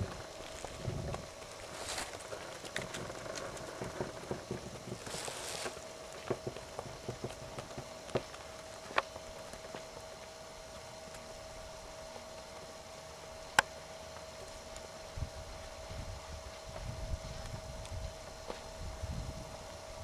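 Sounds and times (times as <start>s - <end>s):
faint steady hum: 0.0s - 20.0s
pony hooves trotting: 0.0s - 20.0s.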